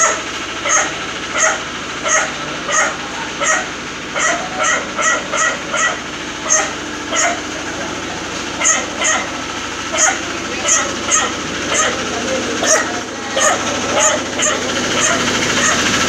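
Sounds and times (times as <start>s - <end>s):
dog barking: 0.0s - 7.5s, 8.6s - 15.9s.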